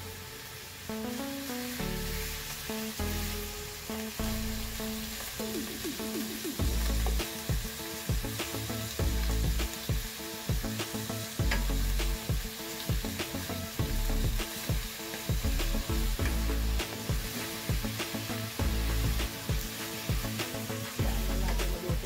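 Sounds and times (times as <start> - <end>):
meat sizzling in a wok: 0.0 - 22.0.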